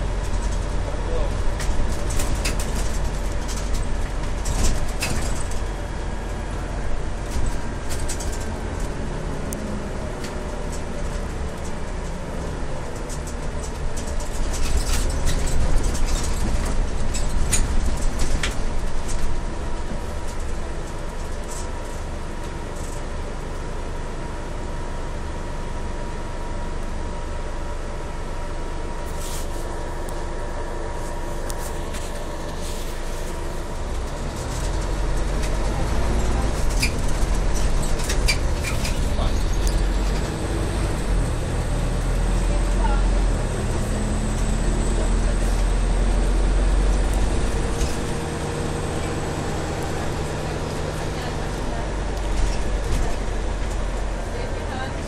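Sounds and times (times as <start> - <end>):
interior clicks and rattles: 0.0 - 23.1, 31.4 - 55.0
bus engine and road rumble: 0.0 - 55.0.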